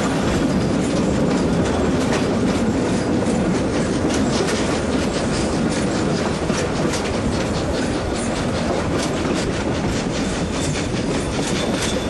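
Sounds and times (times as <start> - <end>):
train carriages rumbling: 0.0 - 12.0
wheels clicking over rail joints: 0.0 - 12.0.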